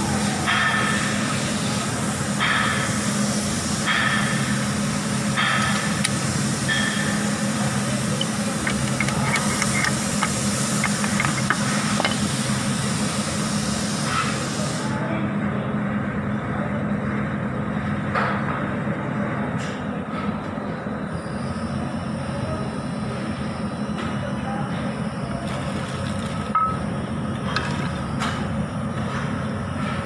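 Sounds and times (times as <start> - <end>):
machinery hum: 0.0 - 30.0.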